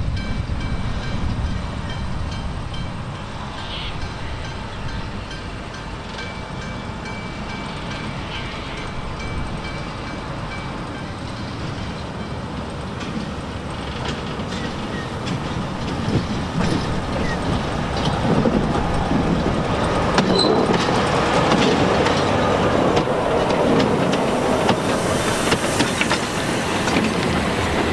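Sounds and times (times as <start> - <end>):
diesel locomotive engine: 0.0 - 27.9
train wheels on rails: 0.0 - 27.9.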